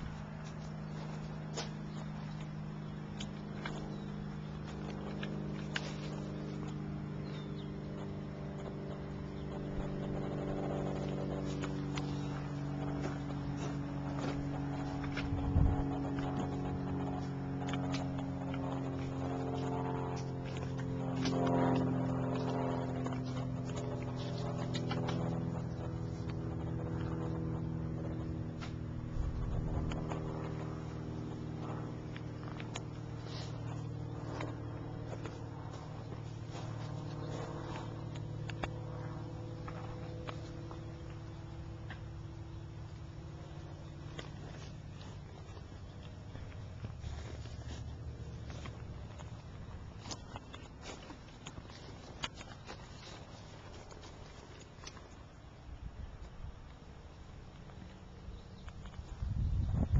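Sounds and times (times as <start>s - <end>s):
low machine hum: 0.0s - 59.9s.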